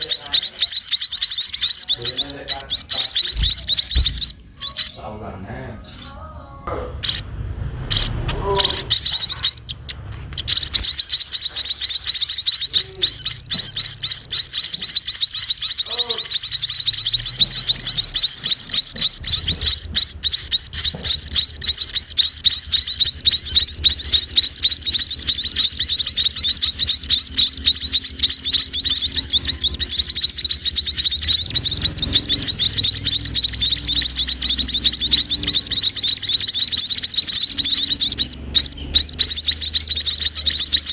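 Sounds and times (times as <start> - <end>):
nestlings chirping: 0.0 - 40.9.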